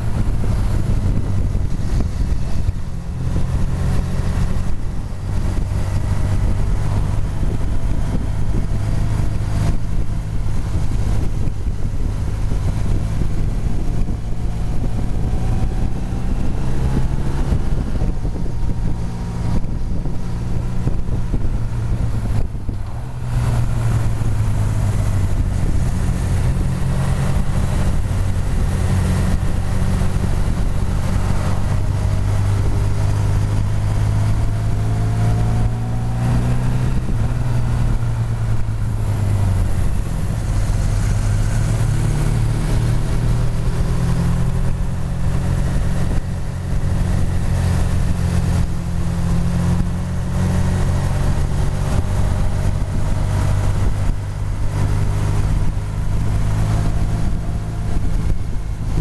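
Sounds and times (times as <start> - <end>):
motorcycle engine accelerating: 0.0 - 59.0
road noise: 0.0 - 59.0
wind noise: 0.0 - 59.0.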